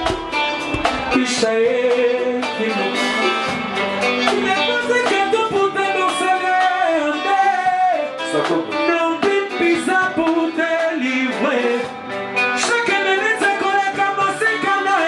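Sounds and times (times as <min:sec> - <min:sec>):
live dance band playing: 0:00.0 - 0:15.0
person singing: 0:00.0 - 0:15.0.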